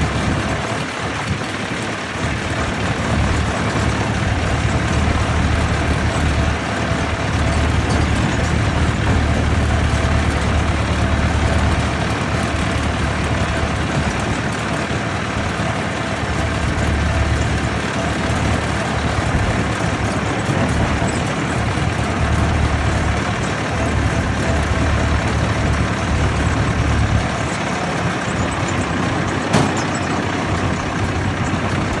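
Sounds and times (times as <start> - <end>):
tractor engines rumbling: 0.0 - 32.0.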